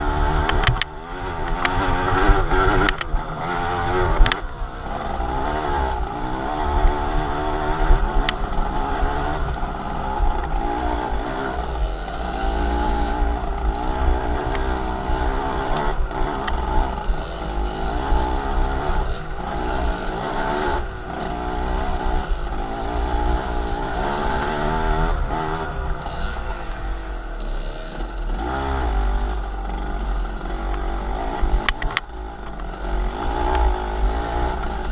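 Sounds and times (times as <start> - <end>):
vehicle engine driving: 0.0 - 34.9.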